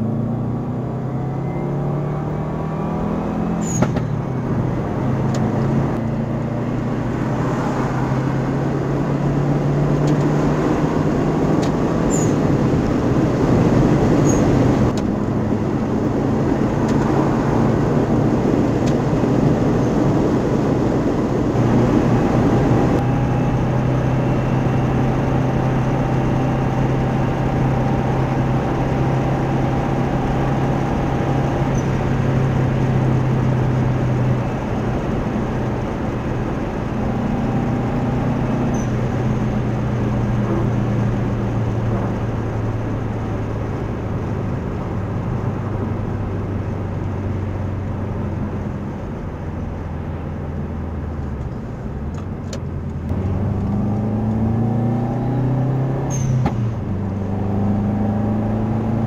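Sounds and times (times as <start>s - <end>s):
car engine and exhaust drone: 0.0s - 59.0s
tyre and road noise: 0.0s - 59.0s.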